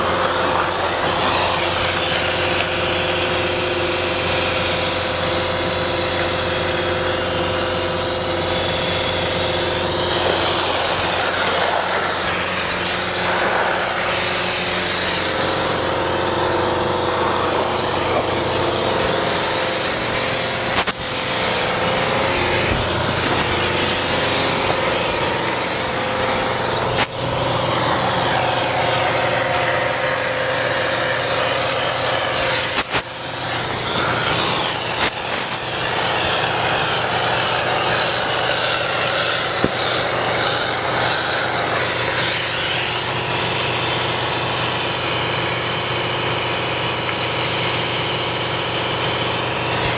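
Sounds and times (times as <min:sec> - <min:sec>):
spray foam machine hum: 0:00.0 - 0:49.9
spray gun hissing: 0:00.0 - 0:49.9.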